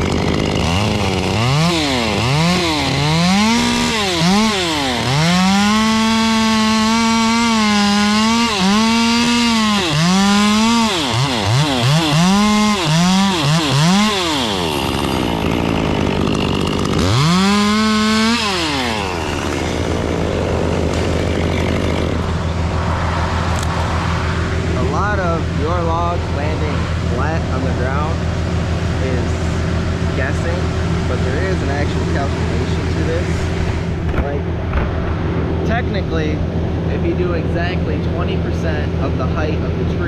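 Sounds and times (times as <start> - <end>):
chainsaw revving and idling: 0.0 - 40.0.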